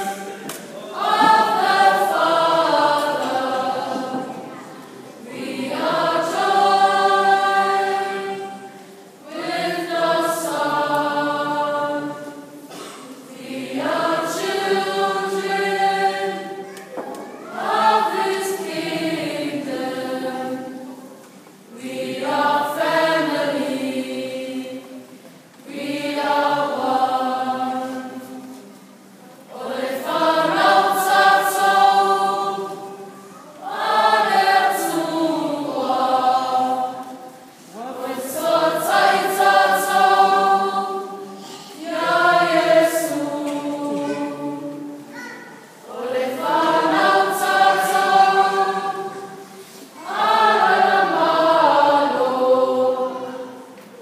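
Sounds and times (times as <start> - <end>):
mixed choir singing in harmony: 0.0 - 45.1, 45.7 - 54.0.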